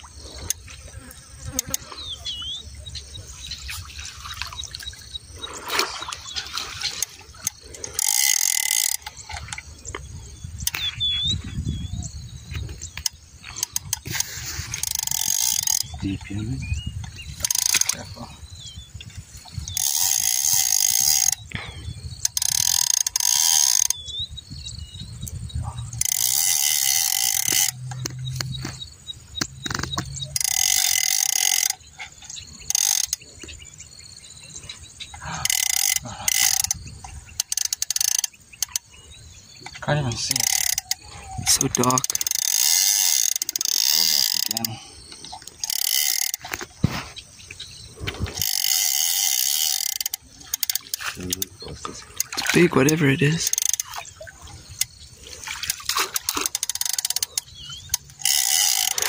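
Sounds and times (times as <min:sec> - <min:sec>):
fishing reel ratcheting: 0:00.2 - 0:02.4, 0:05.6 - 0:11.0, 0:12.6 - 0:21.5, 0:22.1 - 0:24.1, 0:25.2 - 0:33.4, 0:35.1 - 0:46.7, 0:48.0 - 0:59.0.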